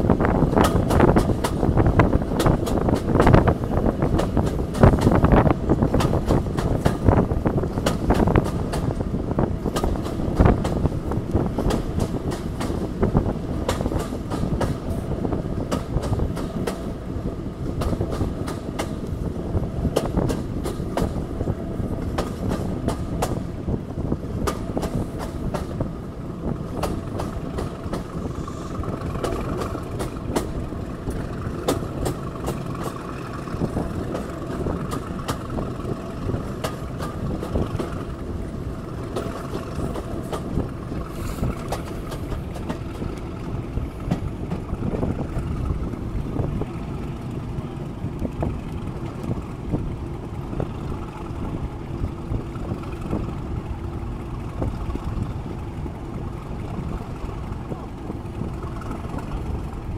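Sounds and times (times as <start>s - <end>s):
diesel locomotive working hard: 0.0s - 59.9s
train running rumble: 0.0s - 59.9s
wheels clicking over rail joints: 0.0s - 59.9s.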